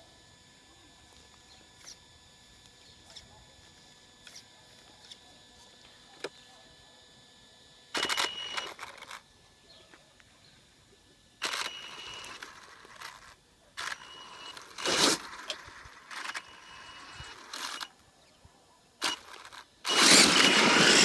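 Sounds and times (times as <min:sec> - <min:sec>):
high electric motor whine: 0:00.0 - 0:21.0.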